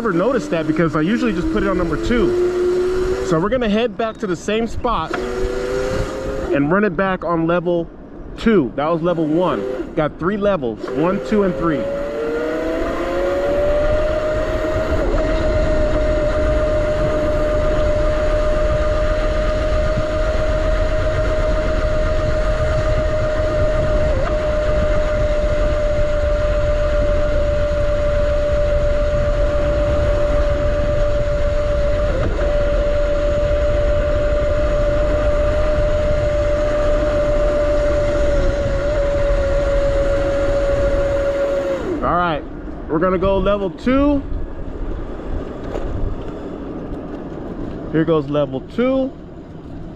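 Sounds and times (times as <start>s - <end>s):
electric motor whining: 0.0s - 3.7s, 4.3s - 6.9s, 8.8s - 47.3s
wind rushing over microphone: 0.0s - 49.9s.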